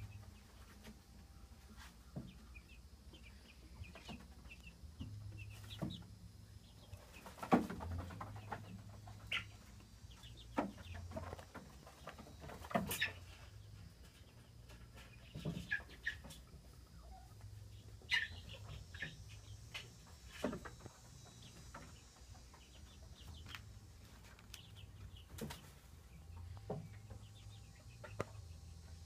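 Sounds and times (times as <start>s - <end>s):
chickens clucking: 0.0s - 29.0s
faint low hum: 0.0s - 29.0s.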